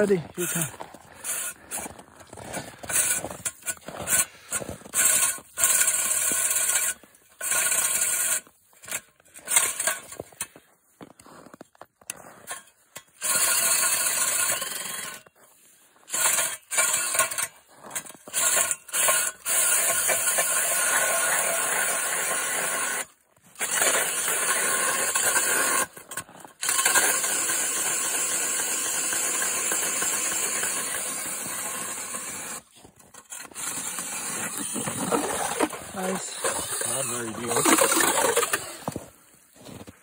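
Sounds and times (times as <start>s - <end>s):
cordless drill boring through ice: 0.0s - 10.6s, 11.5s - 39.1s.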